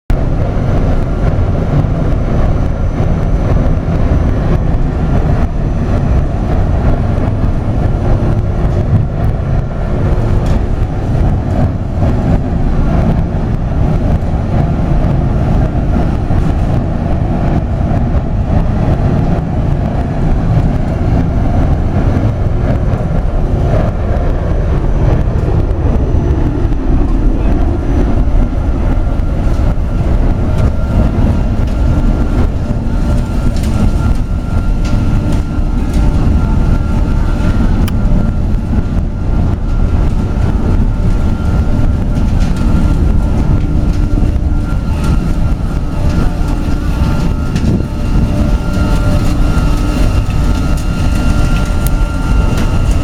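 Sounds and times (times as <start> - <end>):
burner low roar: 0.1 - 53.0.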